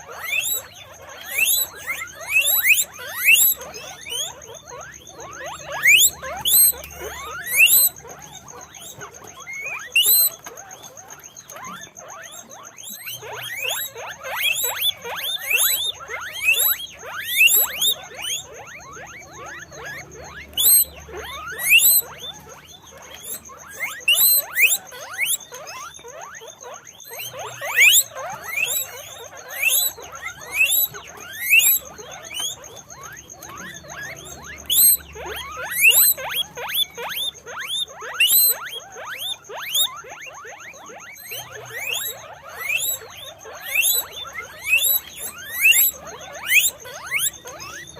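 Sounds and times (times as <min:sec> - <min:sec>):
guinea pigs wheeking: 0:00.0 - 0:47.9.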